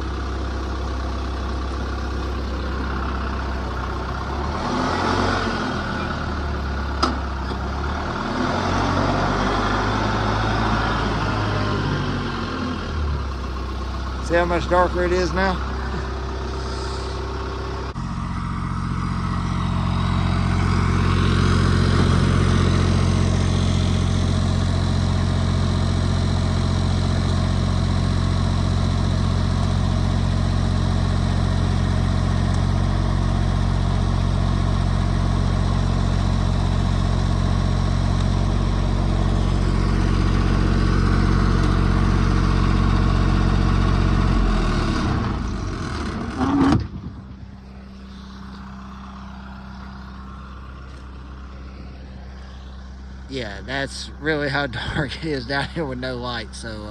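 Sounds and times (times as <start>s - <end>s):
engine running and winding down: 0.0s - 56.9s.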